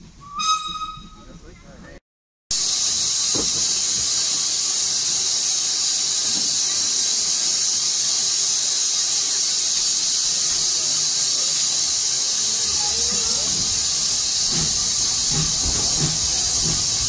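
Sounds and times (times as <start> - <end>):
steam hissing from locomotive: 2.5 - 17.0.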